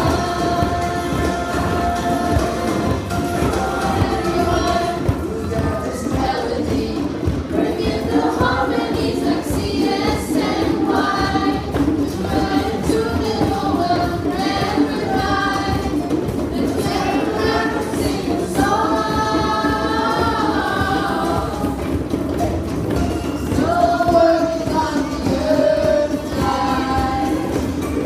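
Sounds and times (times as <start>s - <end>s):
group singing: 0.0s - 28.0s
hand drumming: 0.0s - 28.0s.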